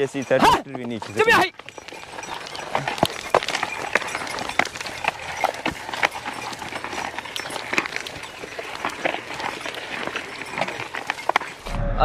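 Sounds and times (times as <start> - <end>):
steps crunching on stony soil: 0.0 - 11.7.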